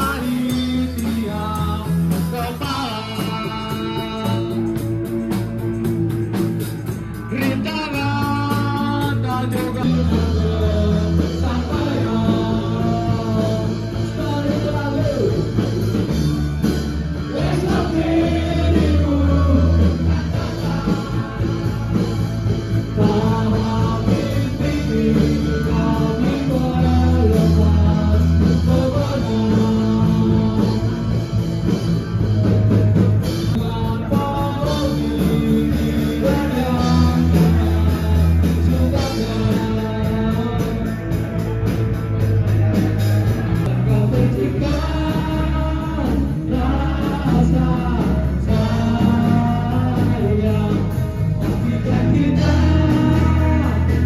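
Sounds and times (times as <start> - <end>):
rock song with vocals: 0.0 - 54.0.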